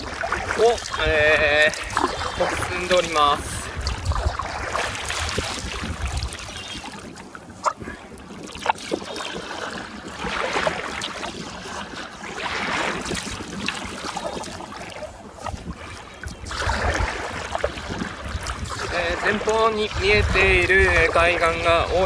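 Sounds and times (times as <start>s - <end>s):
water splashing around paddle: 0.0s - 22.0s.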